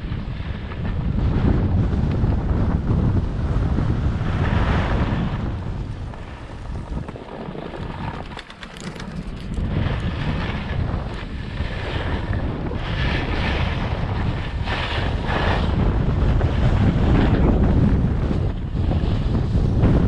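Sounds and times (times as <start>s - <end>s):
skis scraping over snow: 0.0s - 20.0s
wind rushing over microphone: 0.0s - 20.0s.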